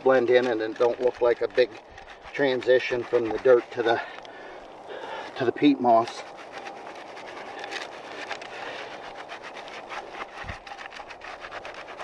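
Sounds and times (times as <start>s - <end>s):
soil rattling through sifter screen: 0.0s - 12.0s.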